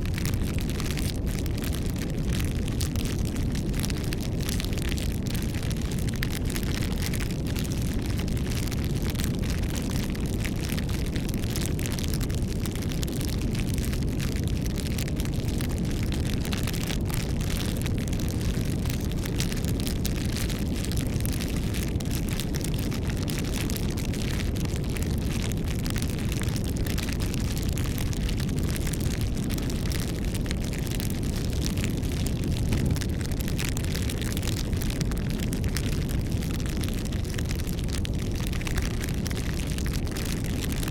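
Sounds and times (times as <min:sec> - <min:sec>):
low rumble of flame: 0:00.0 - 0:40.9
wood fire crackling and popping: 0:00.0 - 0:40.9.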